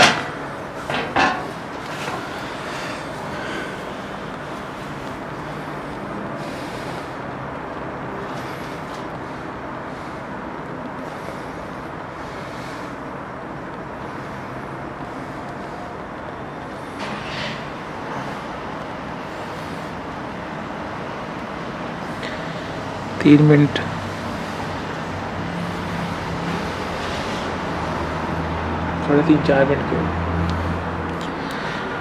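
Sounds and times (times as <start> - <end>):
steady outdoor background noise: 0.0 - 32.0.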